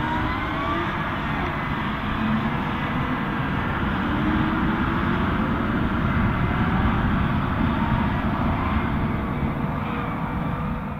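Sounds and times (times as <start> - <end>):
tractor diesel engine under load: 0.0 - 10.9.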